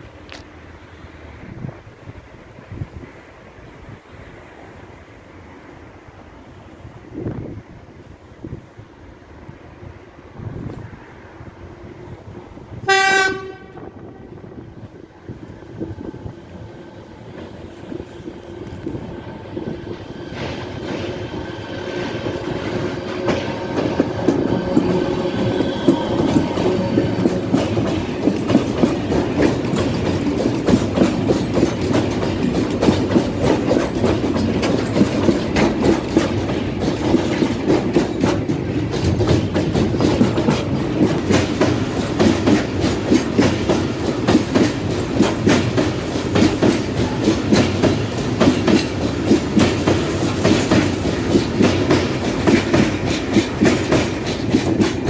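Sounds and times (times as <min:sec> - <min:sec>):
wheels clickety-clack over rail joints: 0:00.0 - 0:04.8, 0:09.4 - 0:55.0
freight train rumble: 0:00.0 - 0:55.0.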